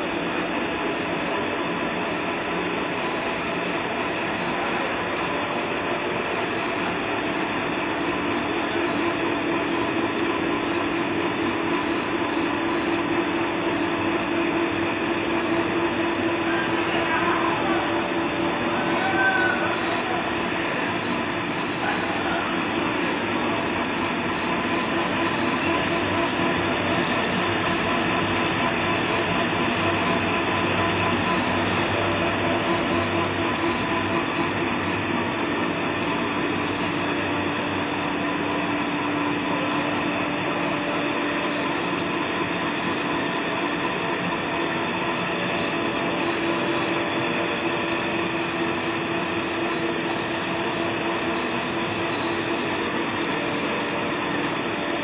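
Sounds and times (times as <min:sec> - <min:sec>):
paper rewinding machine drone: 0:00.0 - 0:55.0.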